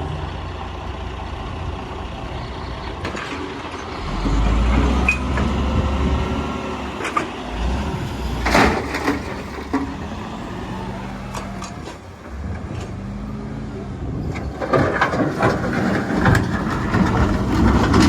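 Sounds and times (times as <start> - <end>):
diesel machinery engine revving: 0.0 - 18.0.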